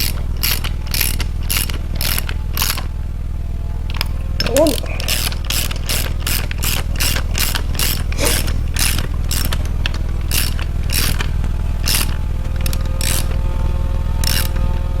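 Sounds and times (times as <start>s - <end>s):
socket ratchet clicking: 0.0s - 2.9s, 3.9s - 13.4s, 14.2s - 14.7s
steady low hum: 0.0s - 15.0s.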